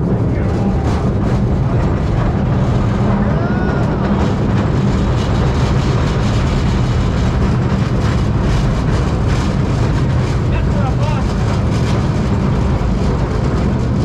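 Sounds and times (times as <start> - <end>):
streetcar rumbling and humming: 0.0 - 14.0.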